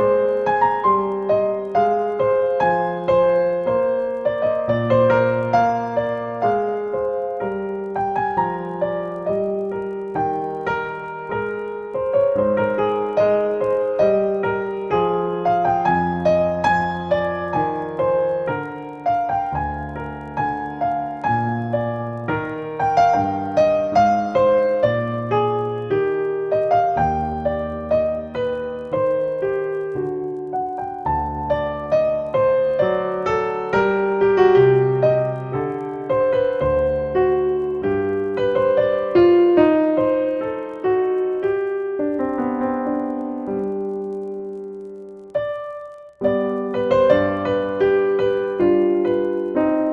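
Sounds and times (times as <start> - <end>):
slow solo piano: 0.0 - 49.9.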